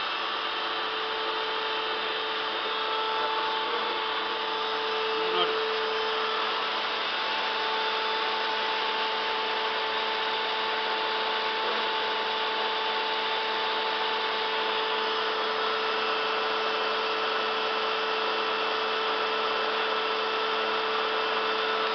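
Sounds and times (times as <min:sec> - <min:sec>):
lathe whirring whine: 0:00.0 - 0:21.9.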